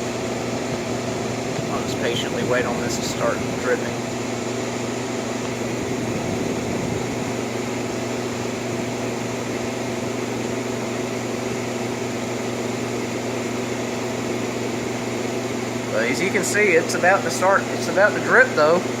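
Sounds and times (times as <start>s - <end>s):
air conditioner blower rushing: 0.0s - 19.0s
electrical motor hum: 0.0s - 19.0s.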